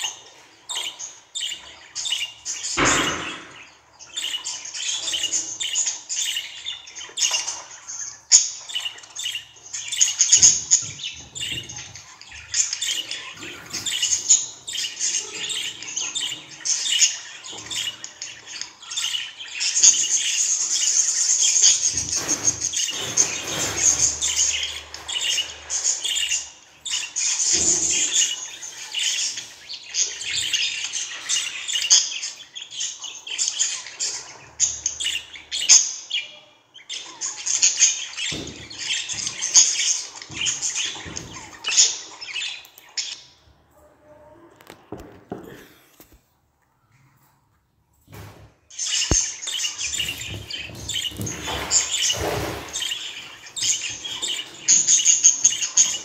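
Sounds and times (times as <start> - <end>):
budgerigars chattering: 0.0 - 43.4, 48.8 - 56.0.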